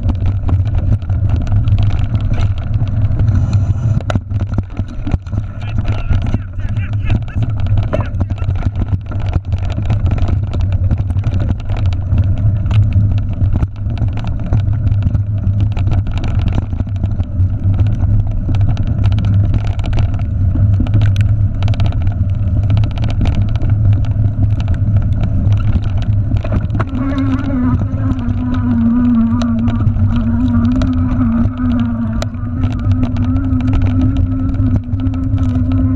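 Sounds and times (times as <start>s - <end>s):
bike clicks and rattles: 0.0s - 35.9s
rumble of wind and tyres: 0.0s - 35.9s.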